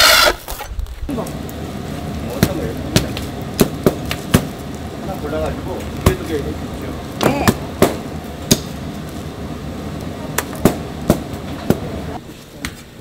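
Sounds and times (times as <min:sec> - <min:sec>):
low market background: 0:00.0 - 0:13.0.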